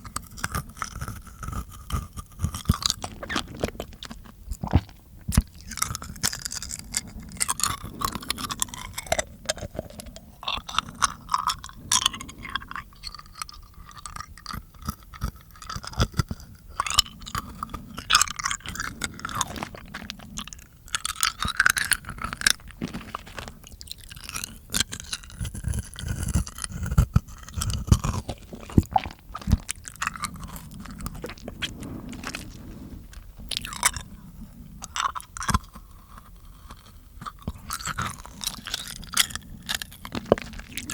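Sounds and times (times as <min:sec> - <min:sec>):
crunchy chewing noises: 0:00.0 - 0:40.9
wet mouth clicks and smacks: 0:00.1 - 0:32.5, 0:34.8 - 0:40.9.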